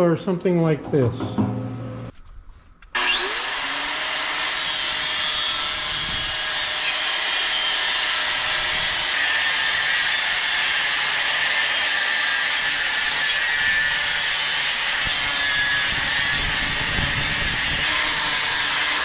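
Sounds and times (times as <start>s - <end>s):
angle grinder grinding steel: 3.0s - 19.0s.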